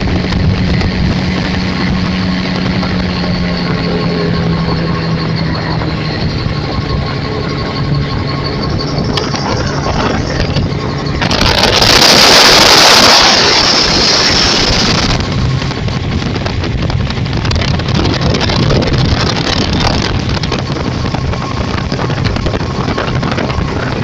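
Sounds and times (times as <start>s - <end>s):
loud rushing noise: 0.0s - 24.0s
vehicle engine running: 0.0s - 24.0s.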